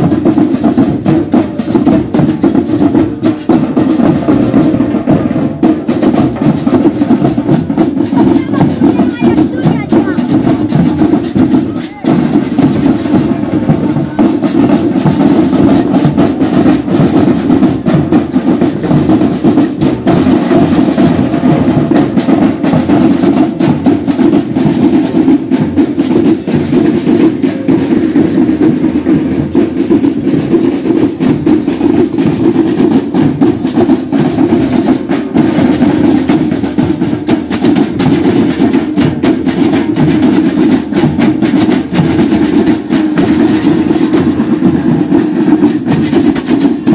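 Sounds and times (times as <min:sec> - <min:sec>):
bass drums: 0:00.0 - 0:46.9
handheld metal percussion: 0:00.0 - 0:46.9
snare drums: 0:00.0 - 0:46.9.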